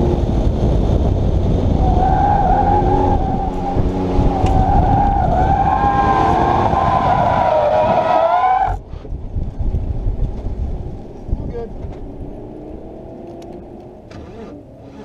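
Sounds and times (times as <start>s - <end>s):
car engine pulling hard: 0.0s - 15.0s.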